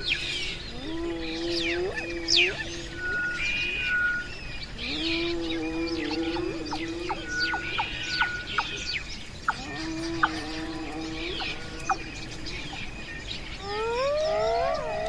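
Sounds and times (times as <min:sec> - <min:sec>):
birds chirping: 0:00.0 - 0:15.0
loud rising animal call: 0:00.2 - 0:08.7, 0:09.5 - 0:15.0.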